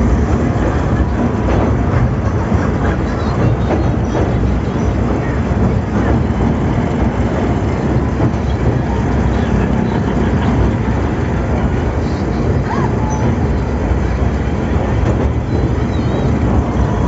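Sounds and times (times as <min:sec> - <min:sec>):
train wheels rumbling on bridge: 0:00.0 - 0:17.0.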